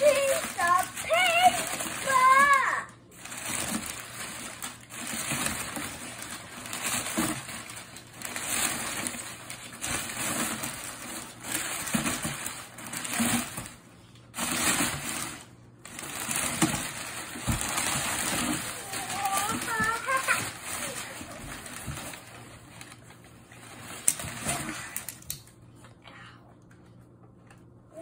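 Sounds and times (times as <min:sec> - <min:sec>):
packing paper rustling: 0:00.0 - 0:25.3.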